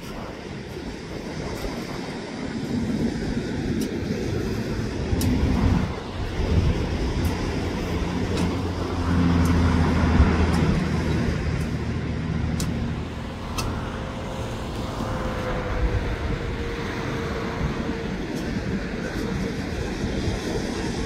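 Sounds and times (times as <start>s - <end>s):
traffic tyre noise: 0.0s - 21.0s
vehicle engine hum: 0.0s - 21.0s.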